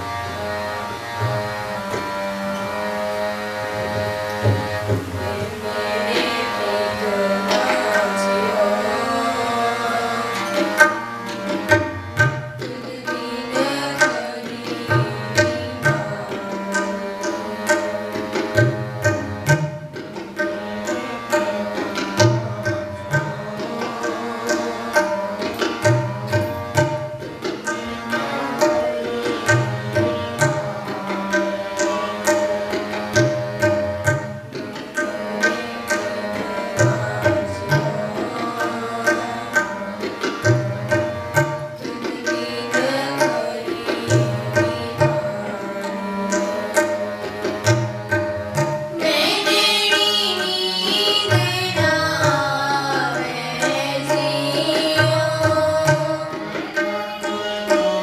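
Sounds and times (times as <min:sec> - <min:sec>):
harmonium melody: 0:00.0 - 0:58.0
tabla rhythm: 0:00.0 - 0:58.0.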